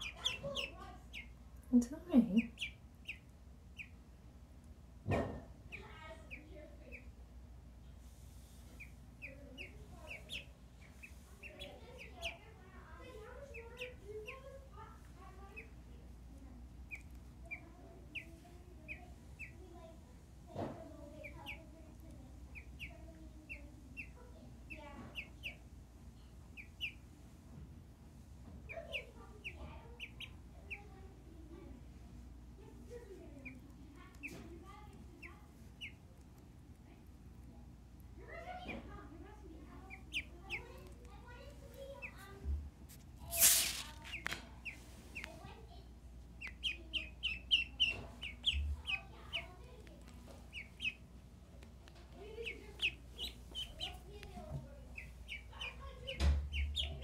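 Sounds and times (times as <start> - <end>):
duckling peeping: 0.0 - 7.3, 7.9 - 20.0, 21.0 - 27.3, 28.6 - 31.2, 32.2 - 57.0.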